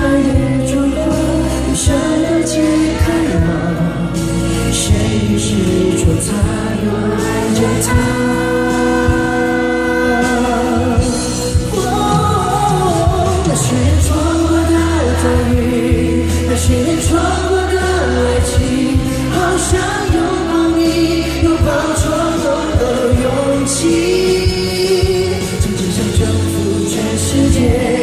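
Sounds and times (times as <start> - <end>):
live pop ballad with band: 0.0 - 28.0.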